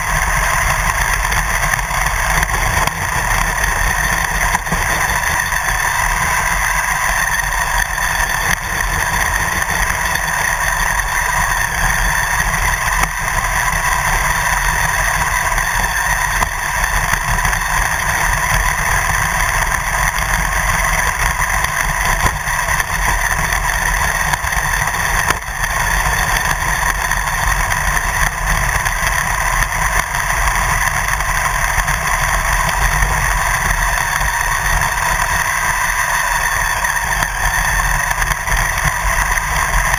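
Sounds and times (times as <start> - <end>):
rumble from bumpy ground: 0.0 - 39.9
toy car motor whine: 0.0 - 39.9.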